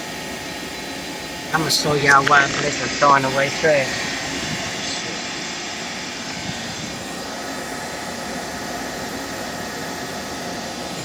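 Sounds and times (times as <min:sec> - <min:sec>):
faint steady tones: 0:00.0 - 0:11.0.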